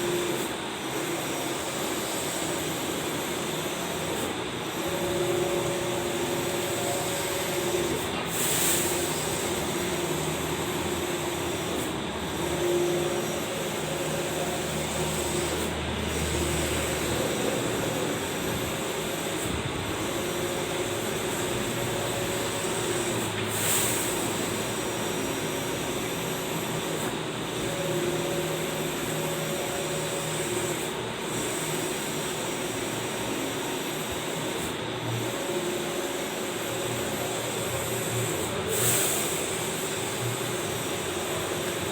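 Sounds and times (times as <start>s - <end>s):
large printer whirring: 0.0s - 41.9s.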